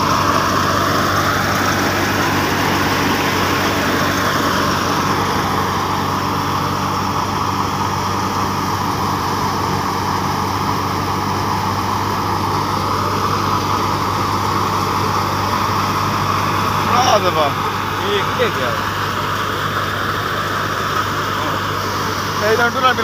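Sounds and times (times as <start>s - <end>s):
threshing drum whirring: 0.0s - 23.0s
tractor engine hum: 0.0s - 23.0s.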